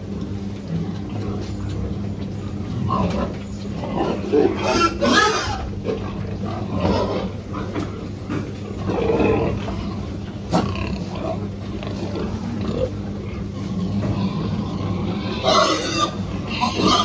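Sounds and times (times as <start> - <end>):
pigs grunting: 0.0 - 17.0
steady low hum: 0.0 - 17.0.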